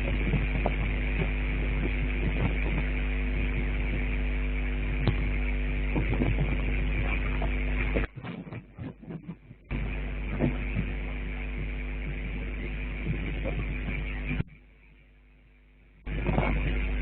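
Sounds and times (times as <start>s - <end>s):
constant hiss: 0.0s - 17.0s
electrical hum: 0.0s - 17.0s.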